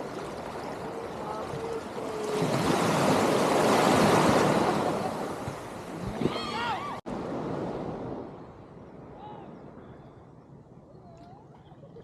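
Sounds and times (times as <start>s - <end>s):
wave breaking and washing in: 0.0s - 9.8s.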